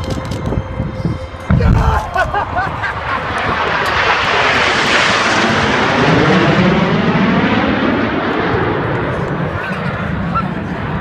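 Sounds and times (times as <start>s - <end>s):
airplane engine roar flyby: 0.0s - 11.0s.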